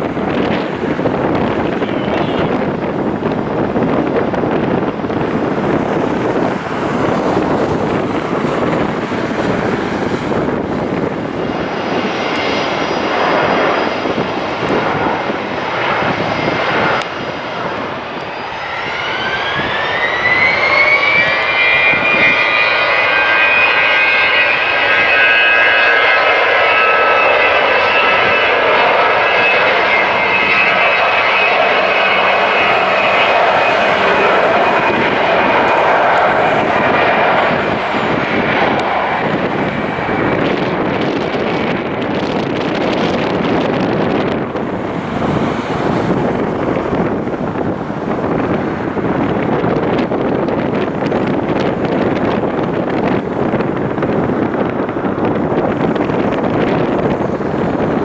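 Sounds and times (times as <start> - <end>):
jet engines spooling up: 0.0 - 58.0.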